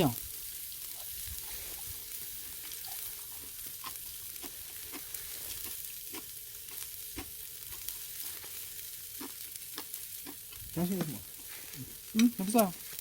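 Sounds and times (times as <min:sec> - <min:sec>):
meat sizzling over charcoal: 0:00.0 - 0:13.0.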